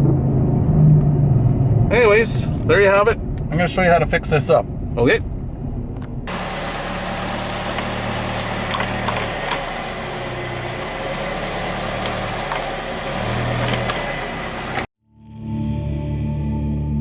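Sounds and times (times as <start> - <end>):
car engine running: 0.0 - 14.9
low hum: 0.0 - 17.0.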